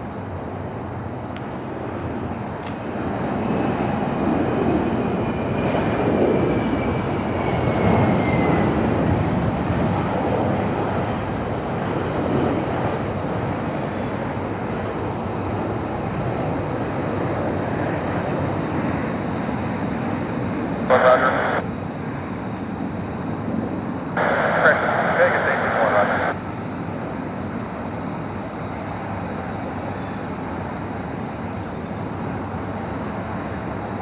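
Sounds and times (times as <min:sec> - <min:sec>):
jet aircraft engine roar: 0:00.0 - 0:34.0
insects chirping: 0:00.1 - 0:34.0.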